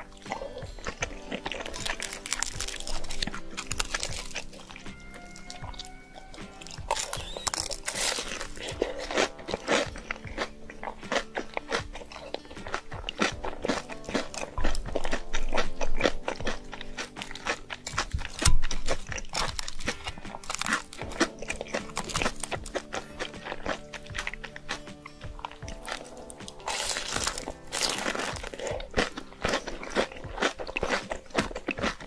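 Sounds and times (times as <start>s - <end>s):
background music: 0.0s - 32.0s
crunching and chewing: 0.0s - 32.0s.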